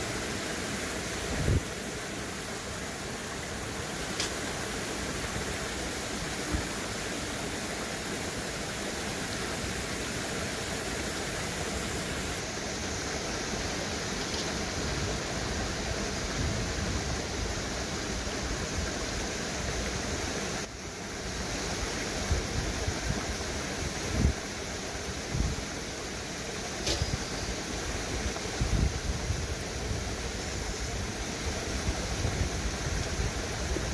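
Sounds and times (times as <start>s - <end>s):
stream flowing: 0.0s - 33.9s.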